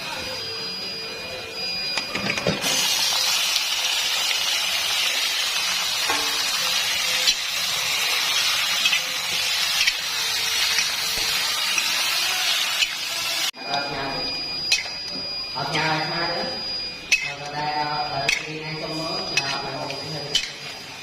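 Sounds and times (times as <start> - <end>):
hot oil sizzling: 2.5 - 16.4, 17.0 - 21.0.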